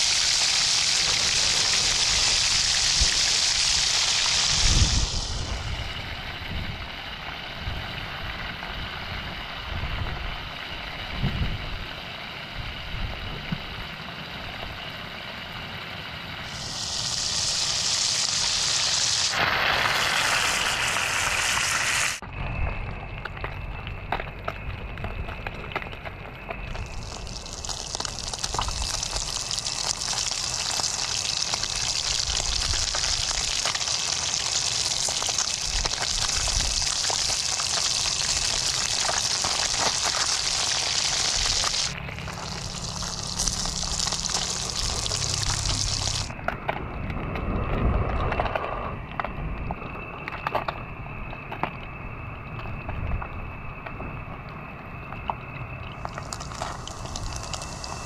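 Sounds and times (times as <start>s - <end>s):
fish frying in hot oil: 0.0s - 46.4s, 55.3s - 58.0s.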